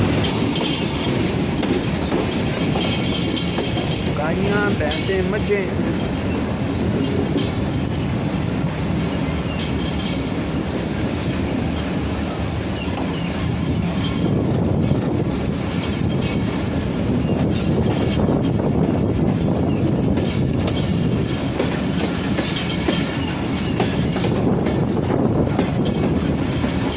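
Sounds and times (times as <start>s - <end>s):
train wheels clattering: 0.0s - 26.9s.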